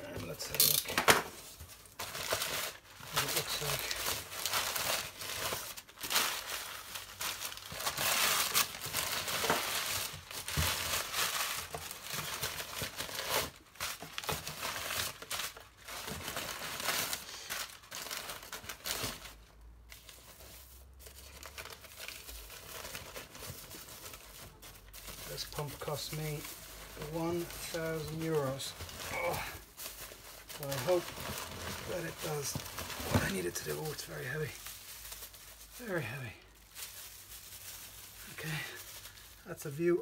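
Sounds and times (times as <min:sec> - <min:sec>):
crumpled newspaper rustling: 0:00.0 - 0:40.0.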